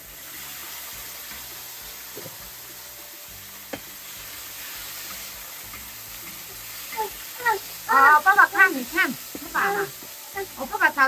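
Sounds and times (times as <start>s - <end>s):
green beans sizzling in a wok: 0.0s - 11.0s.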